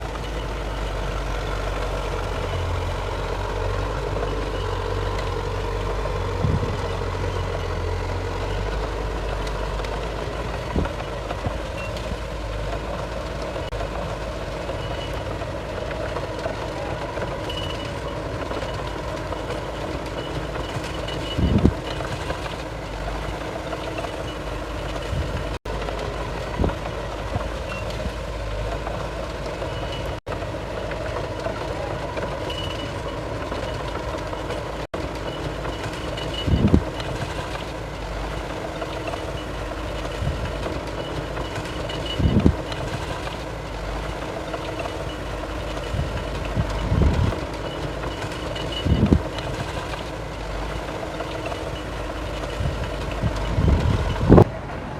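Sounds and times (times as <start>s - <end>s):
heavy diesel machinery rumbling: 0.0s - 54.9s
reversing alarm beeping: 0.1s - 25.6s, 27.5s - 28.2s, 29.4s - 37.8s, 38.4s - 54.6s.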